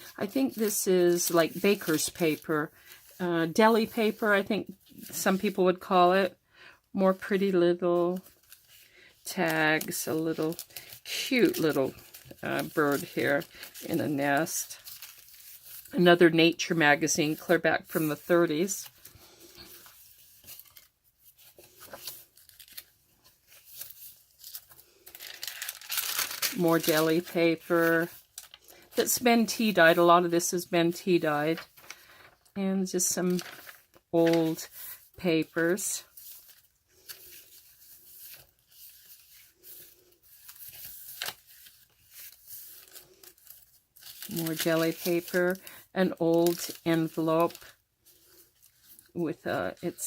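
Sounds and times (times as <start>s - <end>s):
paper pages rustling and crinkling: 0.0s - 6.0s, 7.1s - 50.0s.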